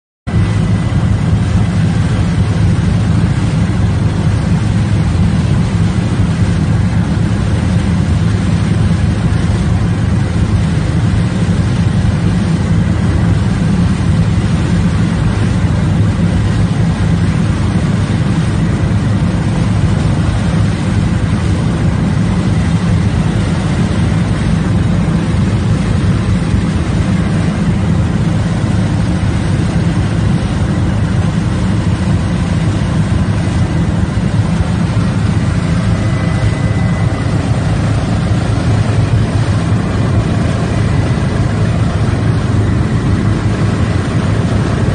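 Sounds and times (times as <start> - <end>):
aircraft engine droning: 0.3 - 44.9.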